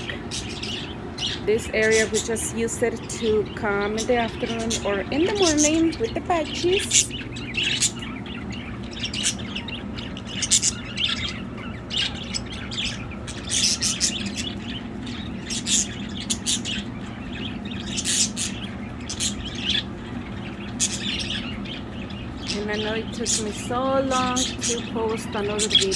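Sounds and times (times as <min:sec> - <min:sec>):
budgerigars chirping: 0:00.0 - 0:25.9.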